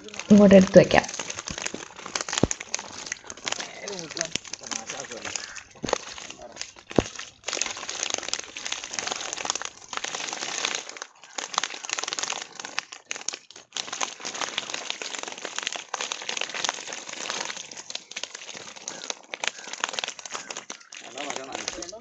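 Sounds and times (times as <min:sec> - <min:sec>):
fish slapping on wet concrete: 0:01.2 - 0:13.4, 0:14.4 - 0:21.9.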